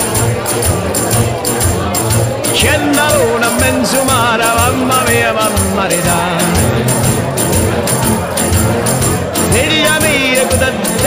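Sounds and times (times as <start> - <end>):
song with wavering singing: 0.0 - 11.0
steady beat: 0.0 - 11.0.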